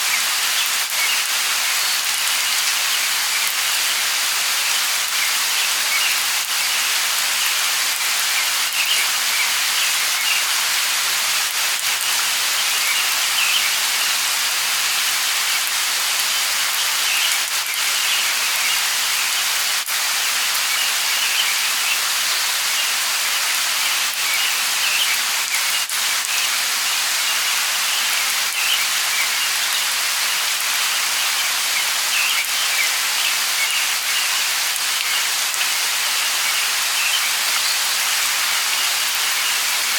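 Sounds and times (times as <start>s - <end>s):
light rain falling: 0.0s - 39.9s
raindrops striking close by: 0.0s - 39.9s.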